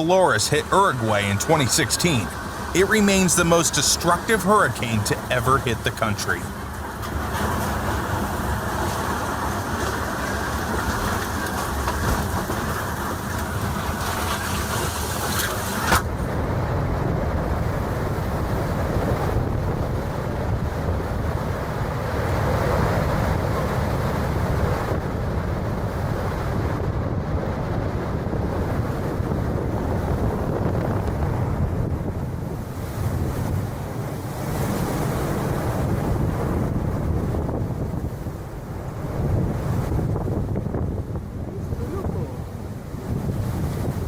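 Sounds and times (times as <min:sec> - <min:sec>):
wind blowing across microphone: 0:06.5 - 0:44.0.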